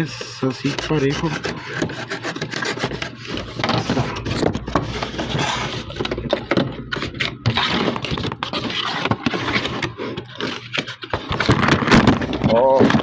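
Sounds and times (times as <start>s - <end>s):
cardboard scraping and crackling: 0.0s - 13.0s.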